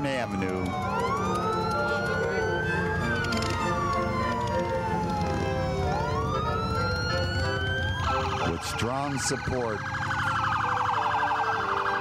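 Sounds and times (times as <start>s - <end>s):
motorcycle engines rumbling: 0.0s - 12.0s
police siren wailing: 0.0s - 12.0s.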